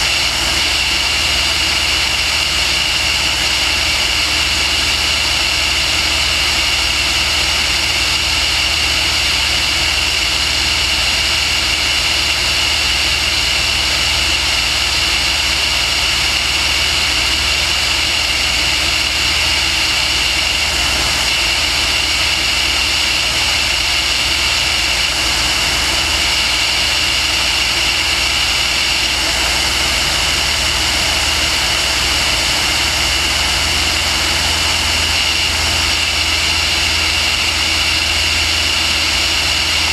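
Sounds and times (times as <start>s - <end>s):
aircraft high whine and hum: 0.0s - 39.9s.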